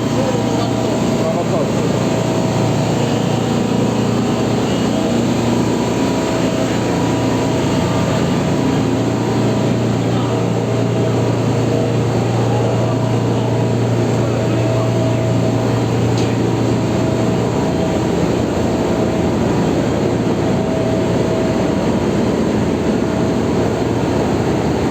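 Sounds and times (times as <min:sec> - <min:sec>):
ship engine drone: 0:00.0 - 0:24.9.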